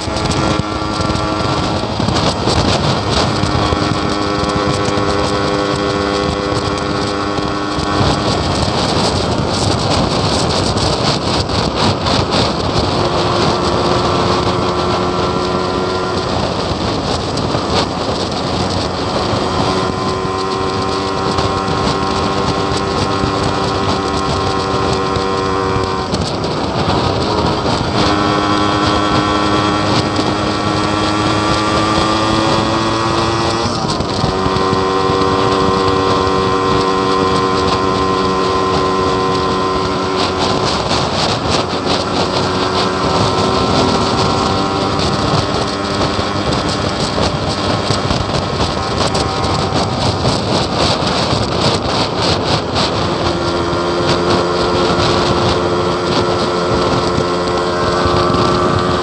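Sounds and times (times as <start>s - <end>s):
two-stroke motorcycle engine: 0.0s - 59.0s
wind noise on microphone: 0.0s - 59.0s.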